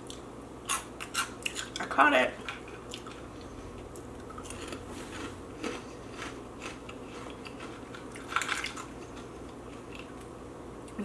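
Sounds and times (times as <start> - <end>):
chewing crunchy snacks: 0.0 - 10.2.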